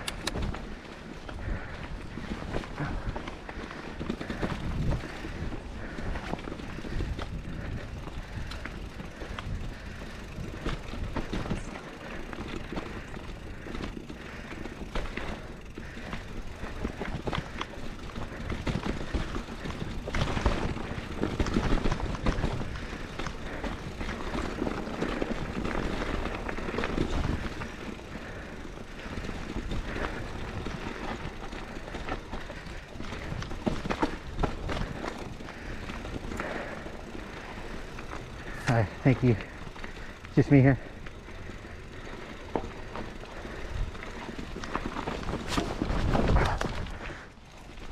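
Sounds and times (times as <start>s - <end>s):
bike rattling and knocking: 0.0s - 47.9s
bike tyres on dirt and rock: 0.0s - 47.9s.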